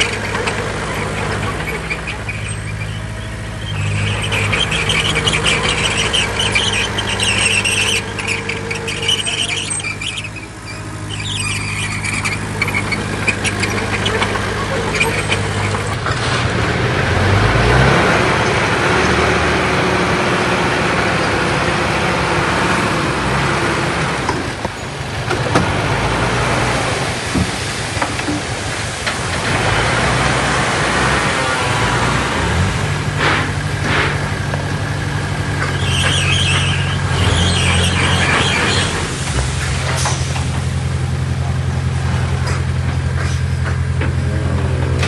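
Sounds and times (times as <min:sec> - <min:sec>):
broad rushing noise: 0:00.0 - 0:45.0
heavy machine engine running: 0:00.0 - 0:45.0.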